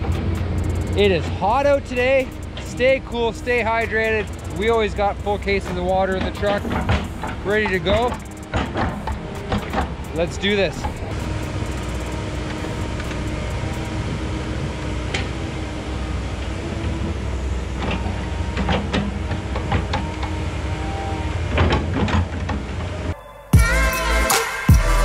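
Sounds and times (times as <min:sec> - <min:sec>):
excavator diesel engine running: 0:00.0 - 0:24.2.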